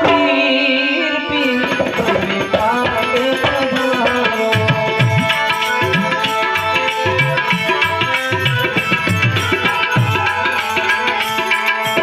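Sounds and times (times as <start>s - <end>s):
harmonium notes: 0.0s - 12.0s
tabla rhythm: 0.0s - 12.0s.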